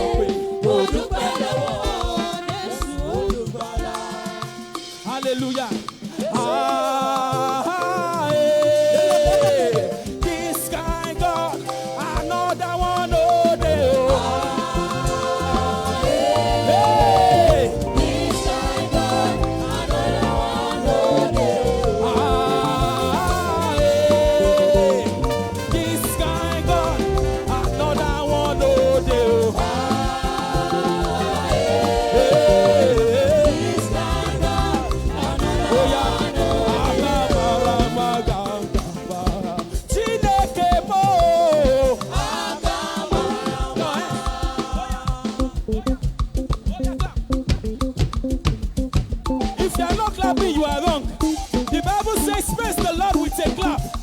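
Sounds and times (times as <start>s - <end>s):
person singing: 0.0s - 46.0s
band playing upbeat song: 0.0s - 54.0s
drum beat: 0.0s - 54.0s.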